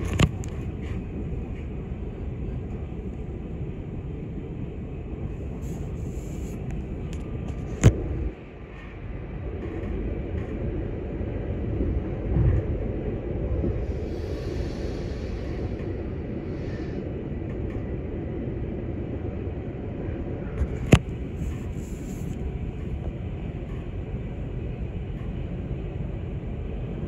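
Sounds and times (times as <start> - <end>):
train carriage rumble: 0.0 - 27.0.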